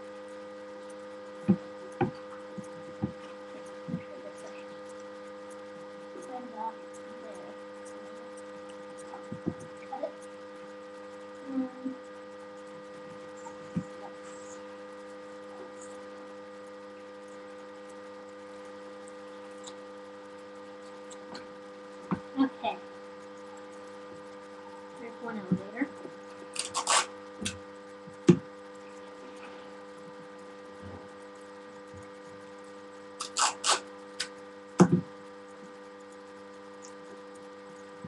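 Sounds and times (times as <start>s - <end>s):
electrical mains hum: 0.0s - 38.0s.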